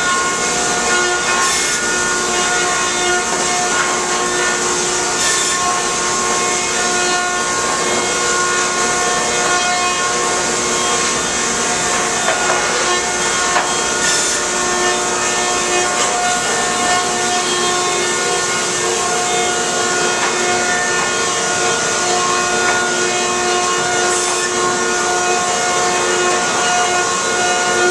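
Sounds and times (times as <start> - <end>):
planer and saw running: 0.0 - 27.9.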